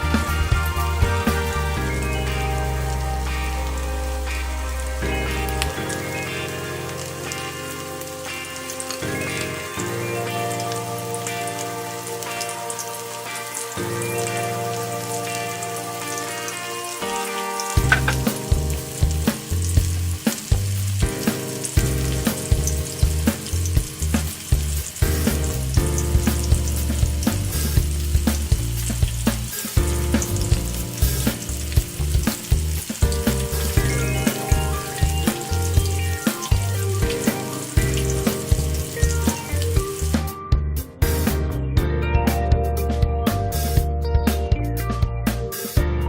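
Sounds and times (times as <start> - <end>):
food sizzling in hot oil: 0.0 - 40.3
background music with beat: 0.0 - 46.0.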